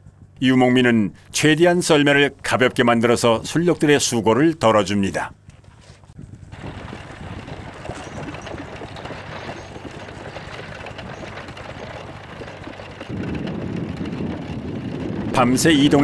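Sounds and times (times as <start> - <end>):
sled runners and hooves on snow: 0.0 - 4.2, 5.4 - 16.0.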